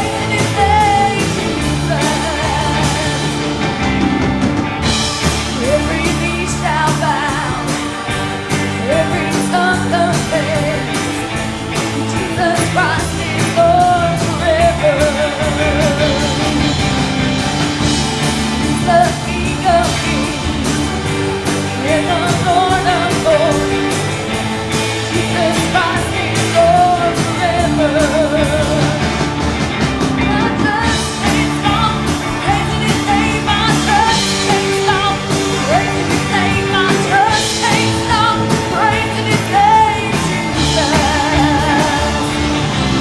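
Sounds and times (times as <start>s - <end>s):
band playing chords and drums: 0.0s - 43.0s.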